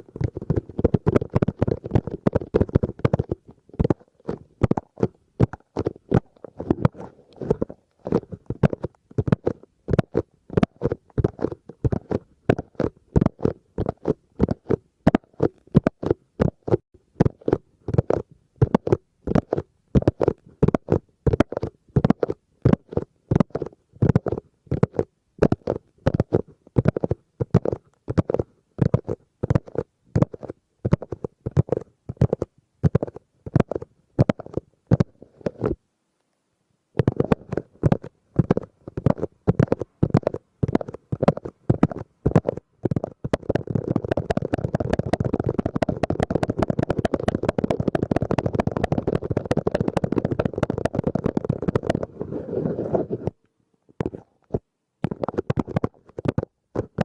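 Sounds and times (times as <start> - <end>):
muffled asmr tapping: 0.0 - 35.8, 37.0 - 57.0.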